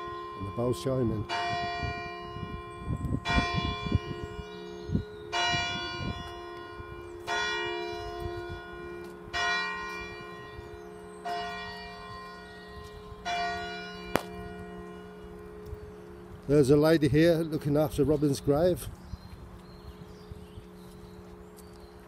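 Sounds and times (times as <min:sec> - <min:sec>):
church bell striking: 0:00.0 - 0:18.4.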